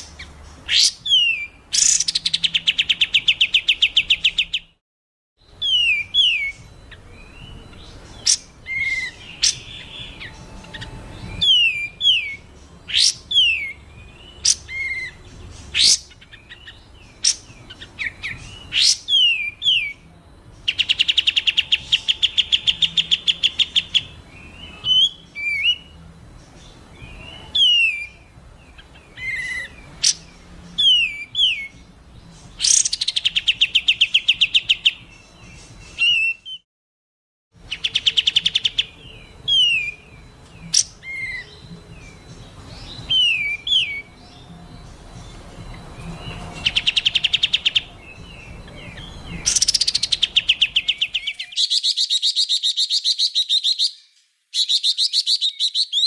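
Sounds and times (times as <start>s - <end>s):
songbird trills: 0.0s - 4.8s, 5.4s - 36.6s, 37.6s - 56.0s
songbird whistles: 0.0s - 4.8s, 5.4s - 36.6s, 37.6s - 56.0s.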